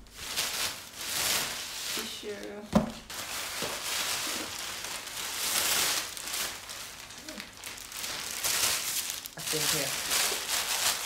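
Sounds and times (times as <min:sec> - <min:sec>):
plastic bag rustling and crinkling: 0:00.0 - 0:11.0.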